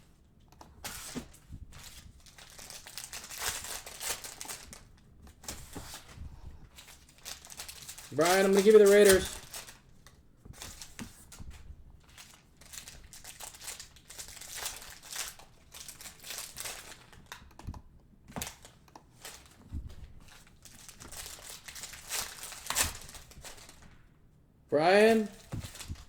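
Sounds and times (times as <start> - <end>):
card wrappers crinkling and tearing: 0.8 - 9.9, 12.0 - 17.4, 18.5 - 24.0, 24.9 - 26.0.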